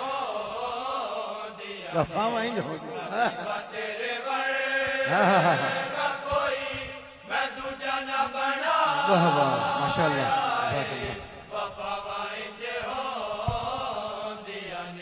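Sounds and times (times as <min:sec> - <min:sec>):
lead voice singing: 0:00.0 - 0:15.0
male chorus holding notes: 0:00.0 - 0:15.0.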